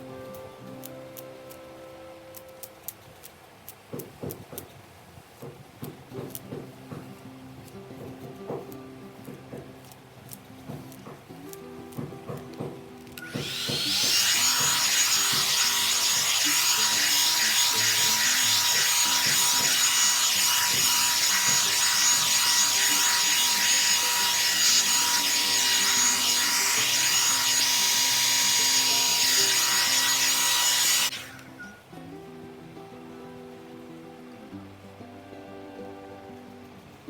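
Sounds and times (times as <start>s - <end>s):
soft background music: 0.0s - 4.4s, 5.8s - 37.0s.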